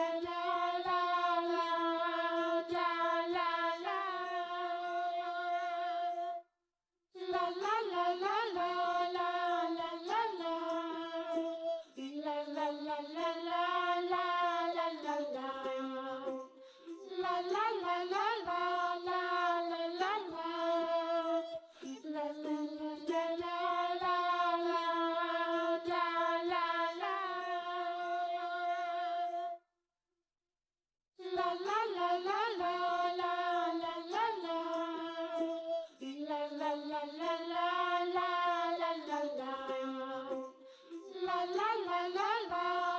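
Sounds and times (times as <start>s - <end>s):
child-like voice singing: 0.0s - 6.4s, 7.2s - 29.5s, 31.2s - 42.9s.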